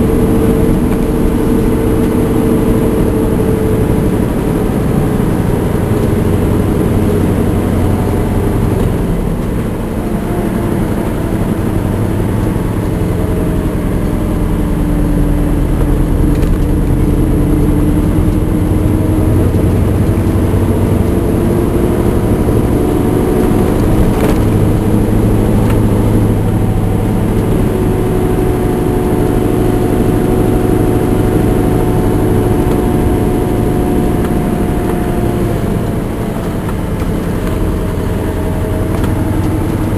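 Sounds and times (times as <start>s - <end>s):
diesel truck engine pulling uphill: 0.0s - 39.9s.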